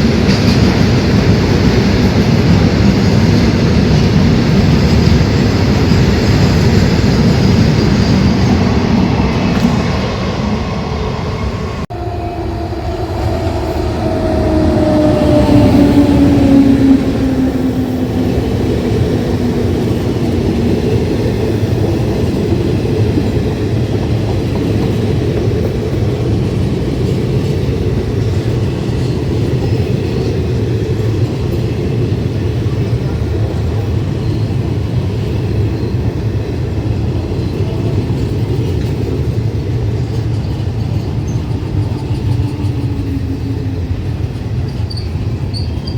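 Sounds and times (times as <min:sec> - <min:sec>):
coaches rumbling on track: 0:00.0 - 0:45.9
passenger train passing: 0:00.0 - 0:45.9.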